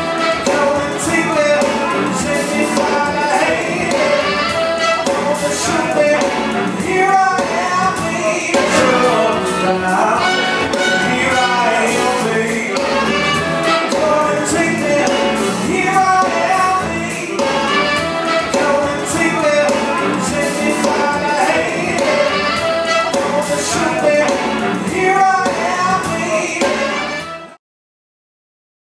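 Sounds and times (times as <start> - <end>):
music with singing voice: 0.0 - 27.6.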